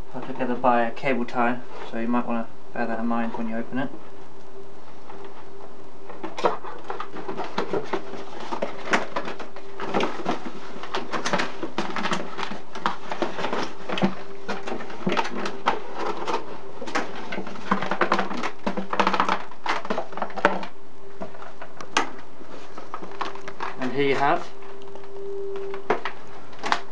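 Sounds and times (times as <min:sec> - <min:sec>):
boiler humming: 0:00.0 - 0:26.9
packaging rustling and scraping: 0:00.2 - 0:26.9.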